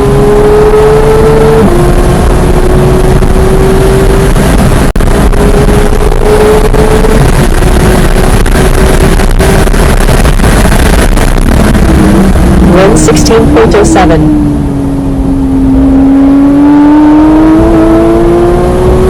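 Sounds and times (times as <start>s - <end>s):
car engine revving: 0.0s - 19.0s
road noise: 0.0s - 19.0s
wind noise: 0.0s - 19.0s.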